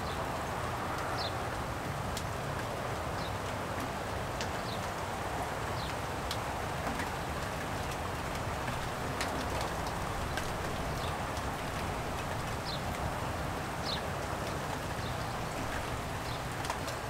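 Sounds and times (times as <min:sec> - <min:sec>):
light rain falling: 0:00.0 - 0:17.0
raindrops ticking close by: 0:00.0 - 0:17.0.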